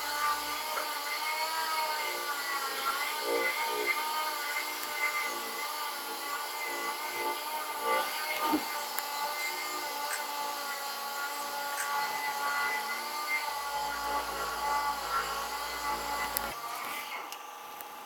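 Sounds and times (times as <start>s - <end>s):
small motor whining: 0.0s - 18.0s.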